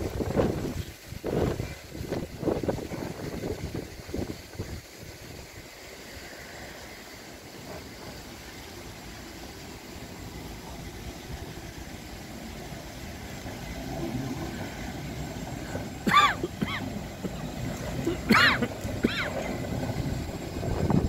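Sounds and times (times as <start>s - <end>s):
tram running rumble: 0.0s - 21.0s.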